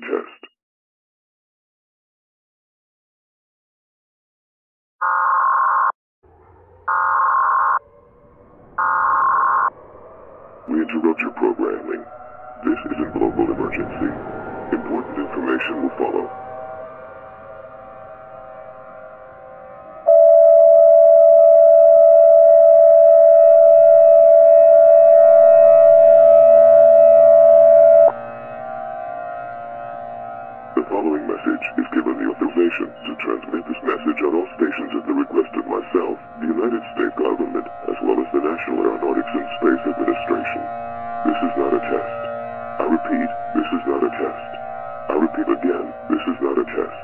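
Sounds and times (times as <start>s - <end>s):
loud steady alert tone: 6.9s - 7.8s, 8.8s - 9.7s, 10.7s - 47.0s.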